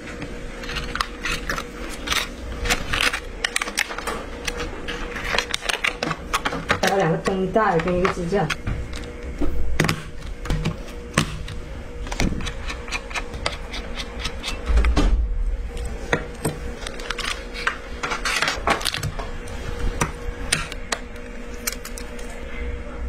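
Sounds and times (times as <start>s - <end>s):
packaging rustling: 0.6s - 14.4s, 15.7s - 22.4s.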